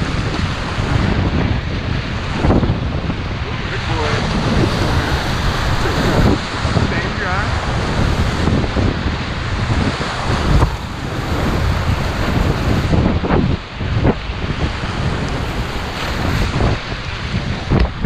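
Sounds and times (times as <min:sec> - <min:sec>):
water splashes: 0:00.0 - 0:18.0
whitewater rapids rushing: 0:00.0 - 0:18.0
wind buffeting microphone: 0:00.0 - 0:18.0.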